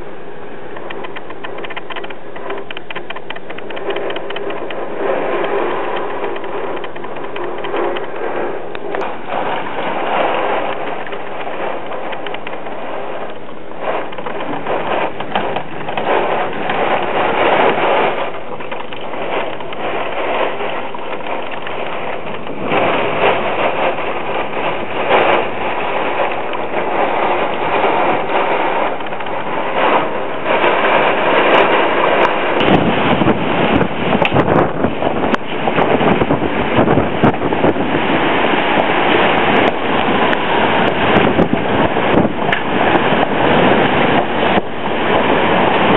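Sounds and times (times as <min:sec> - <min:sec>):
hurricane wind and rain: 0:00.0 - 0:45.9
wind buffeting microphone: 0:00.0 - 0:45.9.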